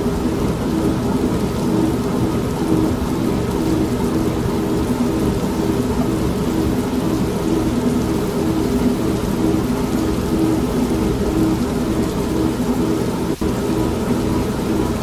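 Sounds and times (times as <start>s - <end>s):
steady rain: 0.0s - 15.0s
washing machine motor humming: 0.0s - 15.0s.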